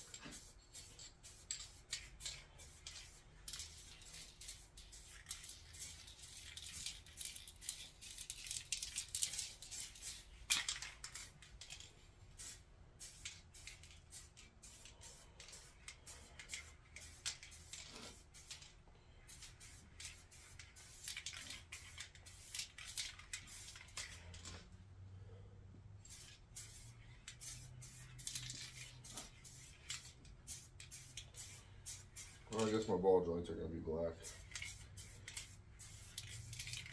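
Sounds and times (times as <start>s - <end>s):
spray paint can hissing: 0.0s - 11.6s, 12.3s - 24.6s, 26.0s - 32.9s, 34.2s - 36.9s.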